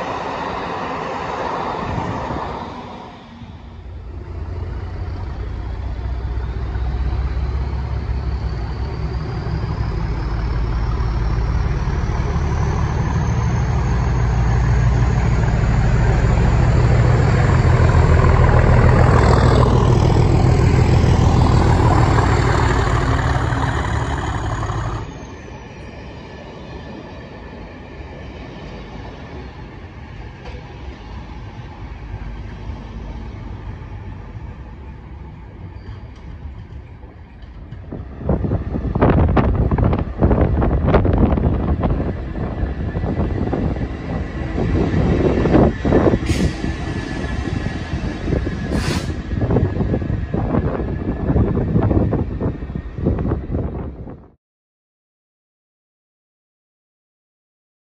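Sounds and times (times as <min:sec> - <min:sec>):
diesel locomotive engine: 0:00.0 - 0:54.4
diesel train rolling past: 0:00.0 - 0:54.4.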